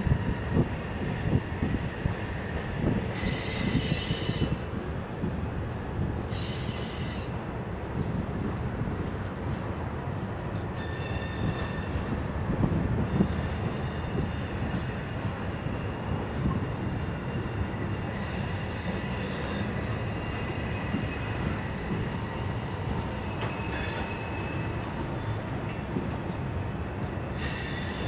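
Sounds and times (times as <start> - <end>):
train clanks: 0.0 - 28.0
train wheels rumbling on rail: 0.0 - 28.0.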